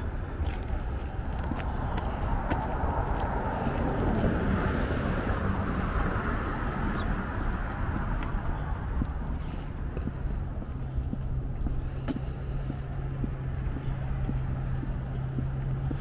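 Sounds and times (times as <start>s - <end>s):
car passing: 0.0s - 16.0s
wind rumble on microphone: 0.0s - 16.0s.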